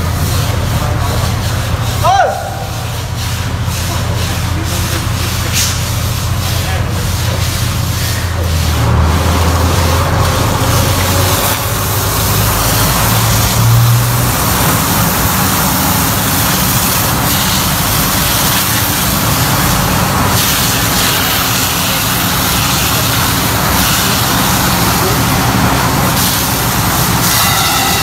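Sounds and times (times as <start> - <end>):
low engine hum: 0.0 - 2.0, 2.7 - 27.3
brooms scrubbing: 0.0 - 28.0
hose spraying water on floor: 0.0 - 28.0.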